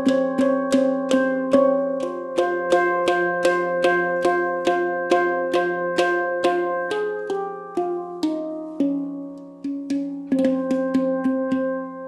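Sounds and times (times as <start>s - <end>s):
handpan notes ringing: 0.0s - 12.0s
long low handpan note: 0.0s - 12.0s.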